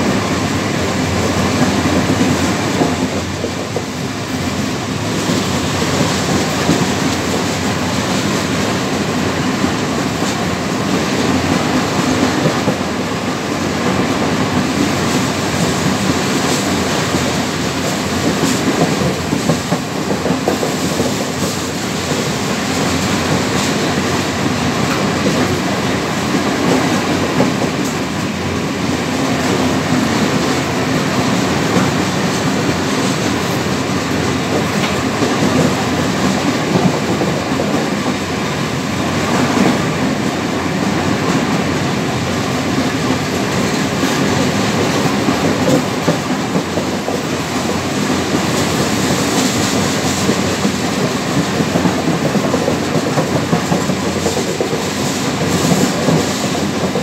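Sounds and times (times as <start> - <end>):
freight train wheels clattering on rails: 0.0 - 57.0.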